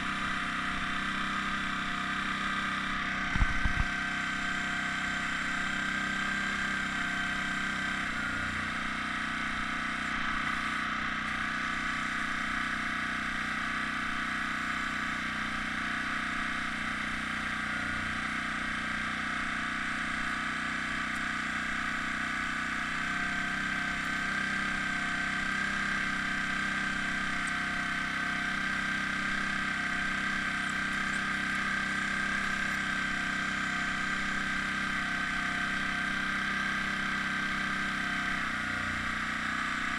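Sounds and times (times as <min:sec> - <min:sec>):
air compressor humming and hissing: 0:00.0 - 0:39.9.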